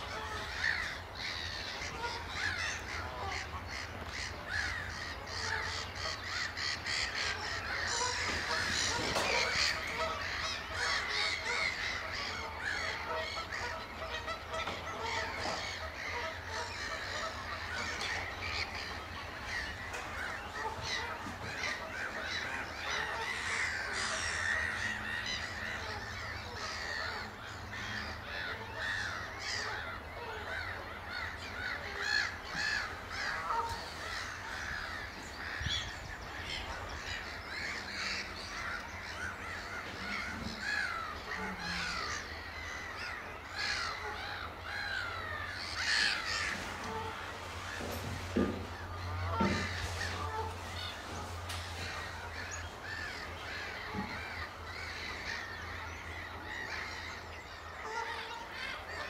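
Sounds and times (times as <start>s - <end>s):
chorus of harsh bird calls: 0.0s - 59.0s.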